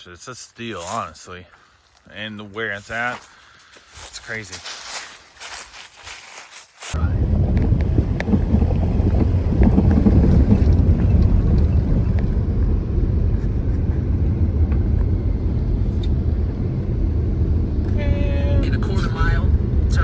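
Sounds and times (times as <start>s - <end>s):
car engine and tyres rumbling: 0.6s - 20.0s.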